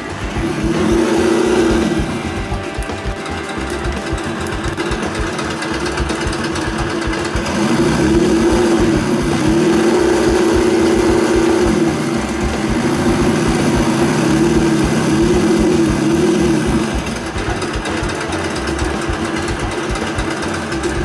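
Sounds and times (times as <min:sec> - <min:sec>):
simulated engine revving: 0:00.0 - 0:21.0.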